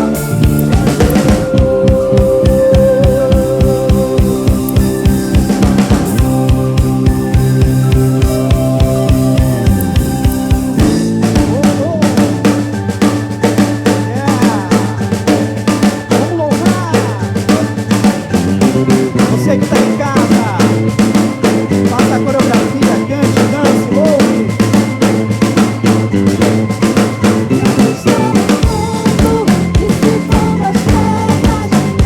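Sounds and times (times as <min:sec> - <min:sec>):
drum kit hits: 0:00.0 - 0:32.0
live soul band playing: 0:00.0 - 0:32.0
pitch-bending lead line: 0:00.0 - 0:32.0.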